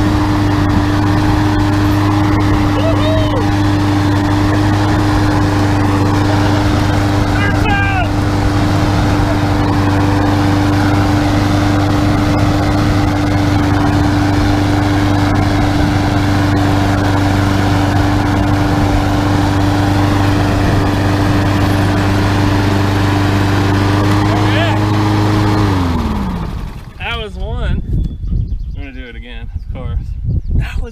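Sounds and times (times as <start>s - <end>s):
riding lawn mower engine running: 0.0s - 27.6s.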